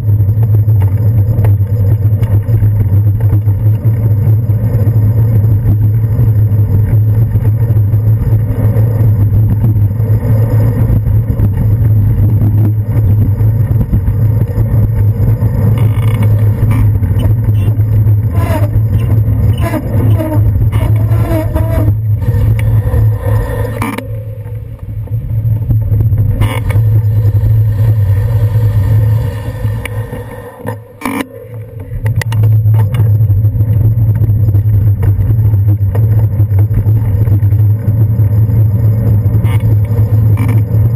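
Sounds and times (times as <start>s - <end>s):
wind and road rumble: 0.0s - 40.9s.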